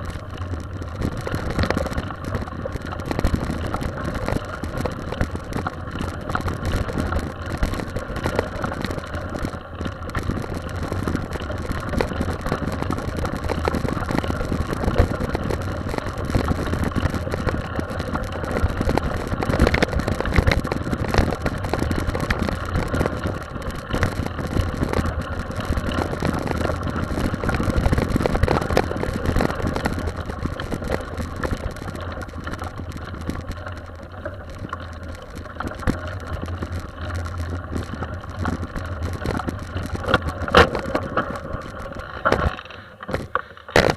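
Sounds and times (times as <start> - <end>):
bike rattling over bumps: 0.0 - 43.9
wind rumble on microphone: 0.0 - 43.9.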